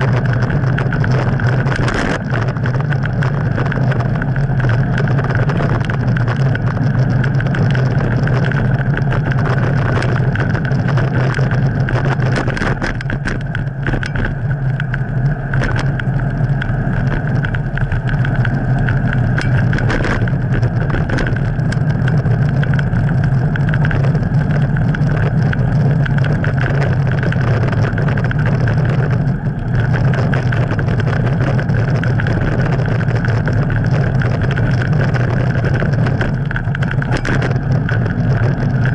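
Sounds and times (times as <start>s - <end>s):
bicycle clicks and rattles: 0.0s - 38.9s
wind and road rumble: 0.0s - 38.9s.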